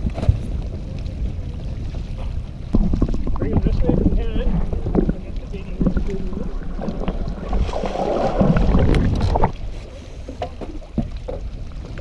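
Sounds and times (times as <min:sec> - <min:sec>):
wind on microphone: 0:00.0 - 0:09.9
water churning and splashing: 0:00.0 - 0:12.0.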